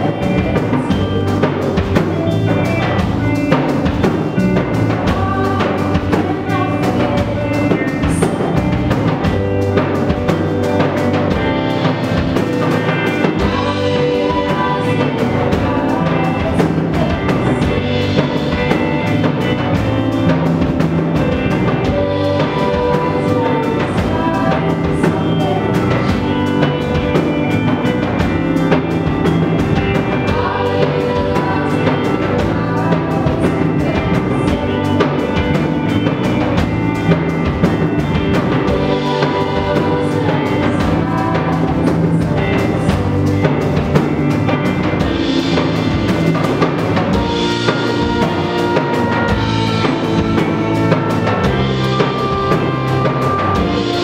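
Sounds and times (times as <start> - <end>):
drum kit beat: 0.0 - 54.0
live band playing: 0.0 - 54.0.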